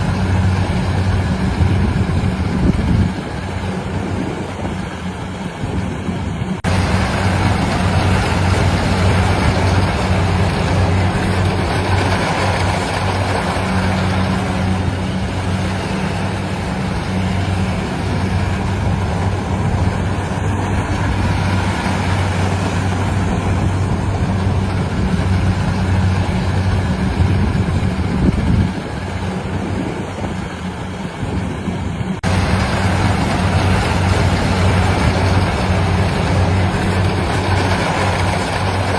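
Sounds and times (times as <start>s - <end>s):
harvester engine running: 0.0s - 38.9s.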